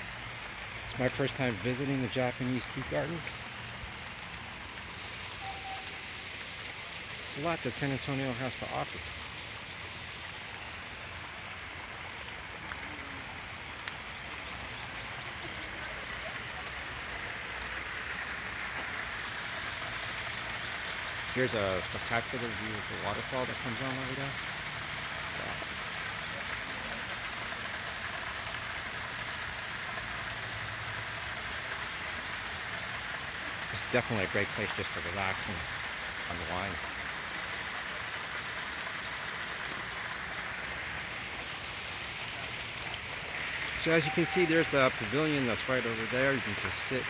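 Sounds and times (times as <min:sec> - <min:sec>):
waterfall splashing into pond: 0:00.0 - 0:47.0.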